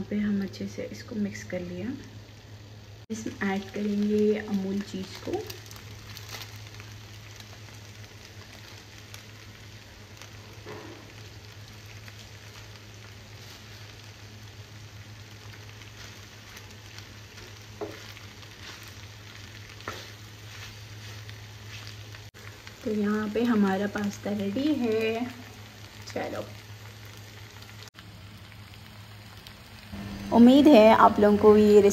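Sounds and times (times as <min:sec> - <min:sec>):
pasta sizzling in a frying pan: 0:00.0 - 0:31.9.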